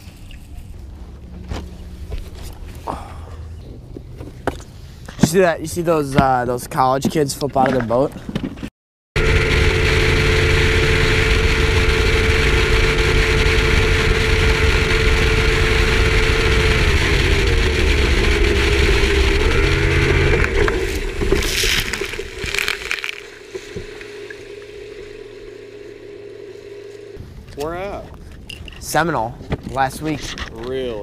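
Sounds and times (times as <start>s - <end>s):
outboard engine drone: 0.0s - 5.2s, 9.2s - 28.8s.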